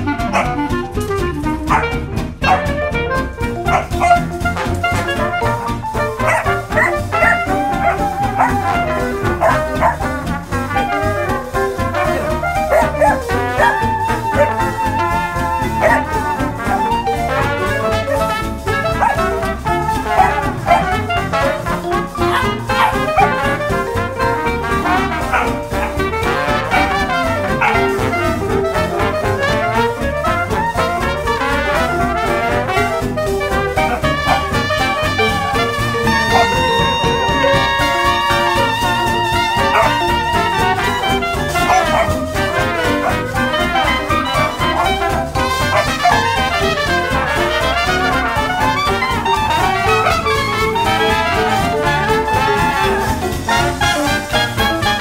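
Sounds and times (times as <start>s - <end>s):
jazz music with brass: 0.0s - 55.0s.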